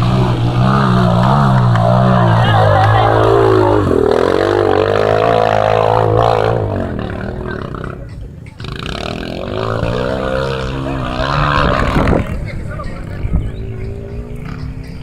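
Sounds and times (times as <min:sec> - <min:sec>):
motocross motorcycles racing past: 0:00.0 - 0:15.0.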